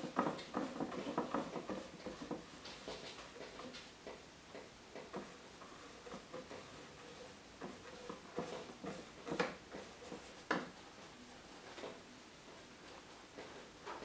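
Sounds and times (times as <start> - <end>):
brush scrubbing on canvas: 0.0 - 3.7, 5.0 - 14.0
brush taps: 0.0 - 14.0.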